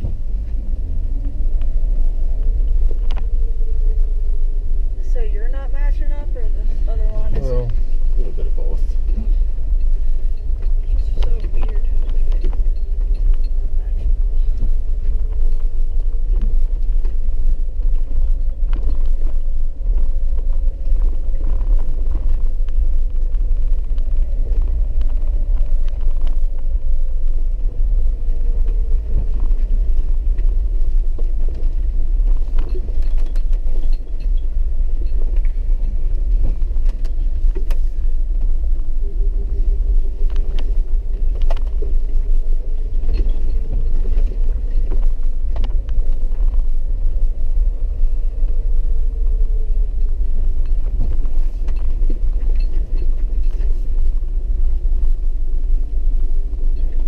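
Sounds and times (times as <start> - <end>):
engine and tyres rumbling: 0.0 - 57.0
faint drivetrain whine: 0.0 - 57.0.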